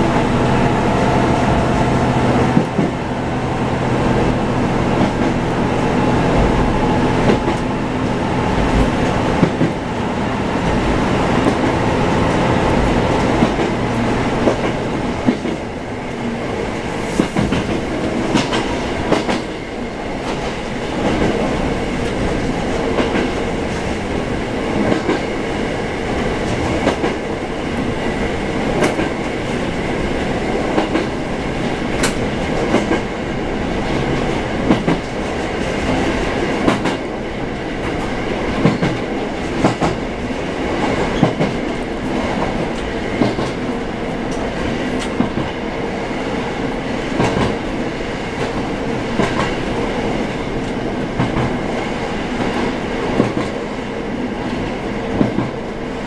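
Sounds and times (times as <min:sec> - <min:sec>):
railcar engine and rolling: 0:00.0 - 0:56.0.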